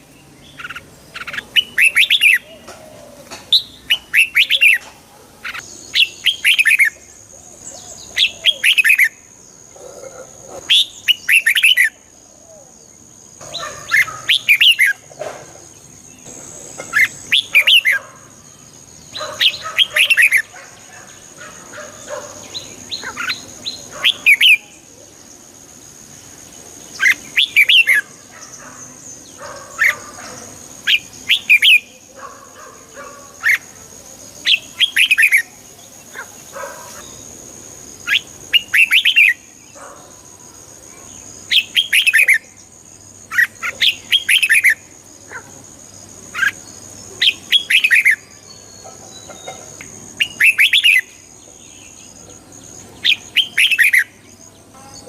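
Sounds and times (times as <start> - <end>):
bulbul chirping song: 0.0 - 9.8, 10.6 - 15.2, 15.8 - 55.0.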